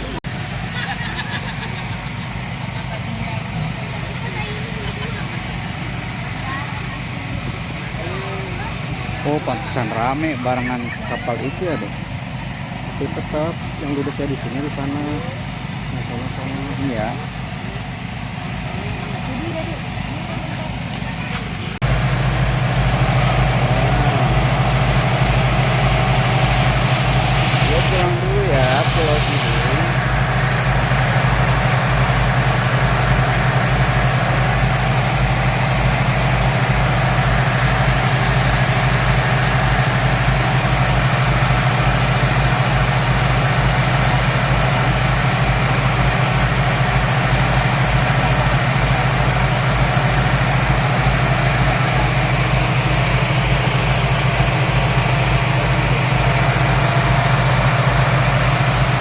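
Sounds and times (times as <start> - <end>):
speedboat engine droning: 0.0 - 59.0.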